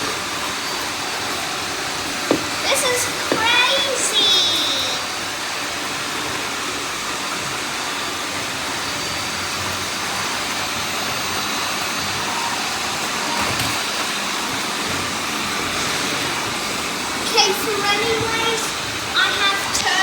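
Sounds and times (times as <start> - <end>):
vacuum cleaners whirring: 0.0 - 20.0.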